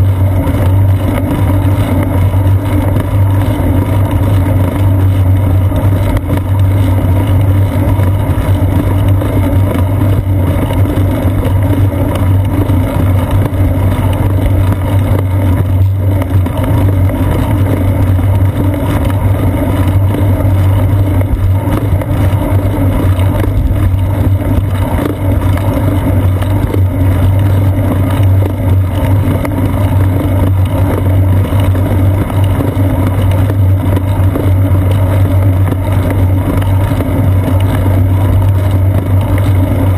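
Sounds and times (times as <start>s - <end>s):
bicycle frame vibration: 0.0s - 39.9s
bicycle tyre rumble on asphalt: 0.0s - 39.9s
wind noise: 0.0s - 39.9s.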